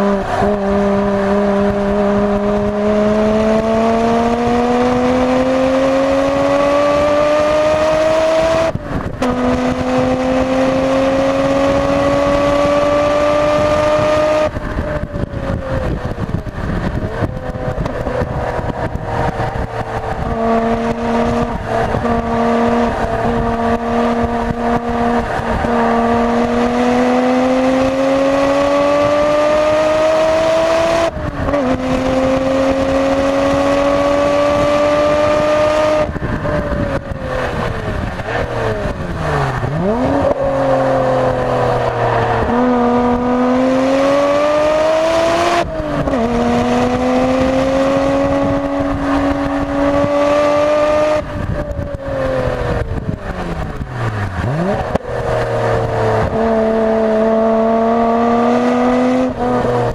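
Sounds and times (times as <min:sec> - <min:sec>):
car engine revving with upshifts: 0:00.0 - 0:59.9.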